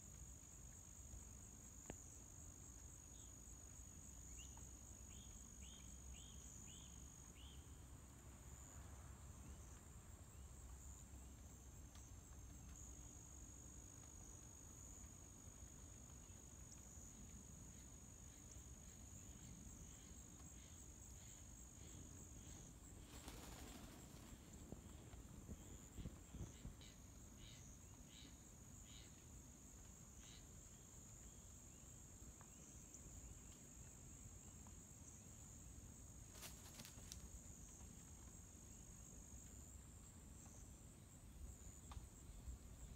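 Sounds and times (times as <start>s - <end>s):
insects trilling: 1.0s - 7.9s, 8.5s - 34.5s, 36.0s - 39.8s.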